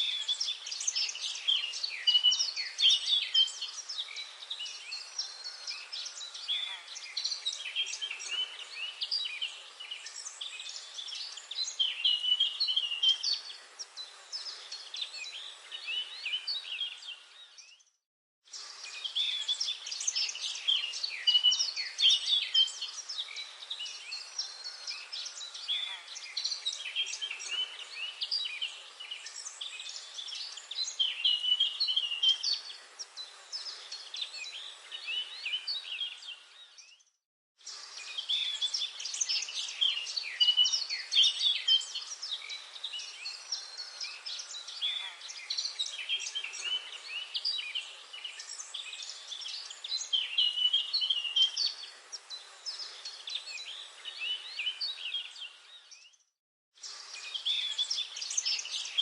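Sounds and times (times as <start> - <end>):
faint steady hiss: 0.0 - 17.4, 18.5 - 36.6, 37.6 - 55.8, 56.8 - 59.0
birds chirping and trilling: 0.0 - 17.9, 18.5 - 59.0.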